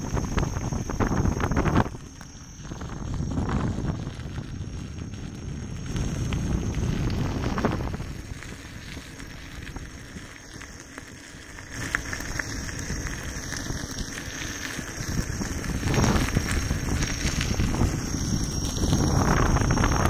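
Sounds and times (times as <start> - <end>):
tyre crunching over gravel: 0.0 - 20.0
wind rumbling on microphone: 0.0 - 20.0.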